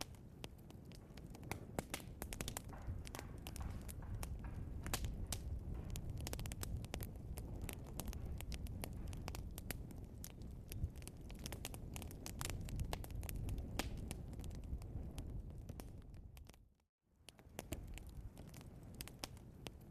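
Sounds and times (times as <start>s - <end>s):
burning logs crackling and popping: 0.0s - 19.9s.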